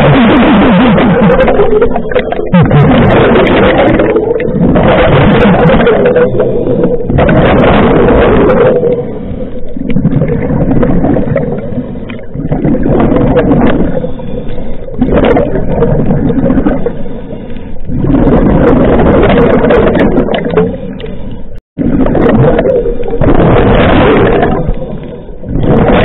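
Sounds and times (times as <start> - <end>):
exhaled air bubbling underwater: 0.0 - 26.0.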